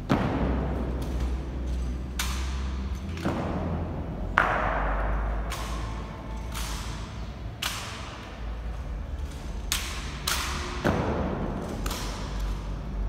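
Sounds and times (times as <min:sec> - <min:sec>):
rifles slapping and clacking: 0:00.0 - 0:13.0.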